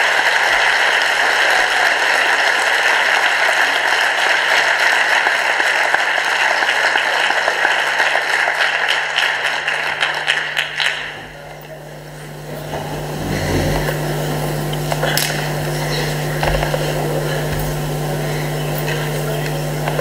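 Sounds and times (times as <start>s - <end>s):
audience applause: 0.0s - 20.0s.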